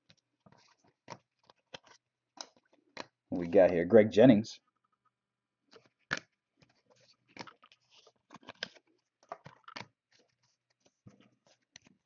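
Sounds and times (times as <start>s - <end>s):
trading cards handled and flipped: 0.0s - 3.8s, 4.8s - 12.0s.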